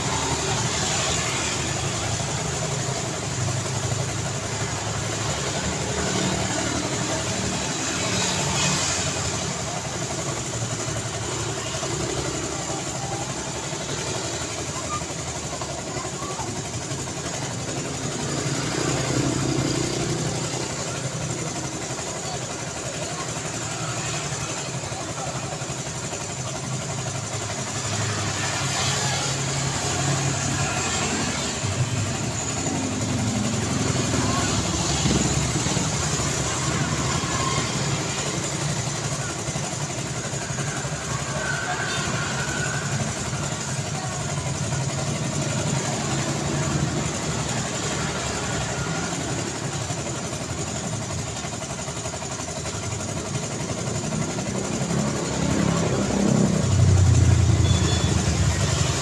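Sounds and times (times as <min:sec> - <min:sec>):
vehicles passing: 0:00.0 - 0:50.6, 0:53.9 - 0:59.0
road traffic: 0:00.0 - 0:59.0.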